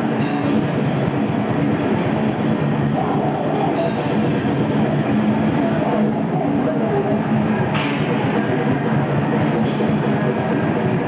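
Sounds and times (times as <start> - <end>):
loud distorted guitar: 0.0 - 11.0.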